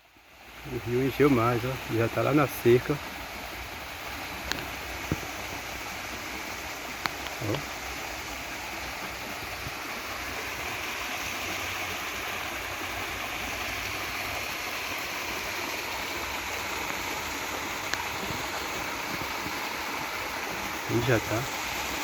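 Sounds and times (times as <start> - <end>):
river rushing: 0.2 - 22.0.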